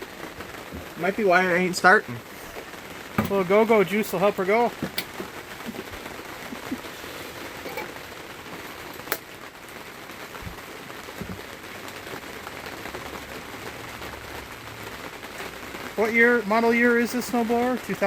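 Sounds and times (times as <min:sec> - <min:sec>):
rain pattering: 0:00.0 - 0:18.0.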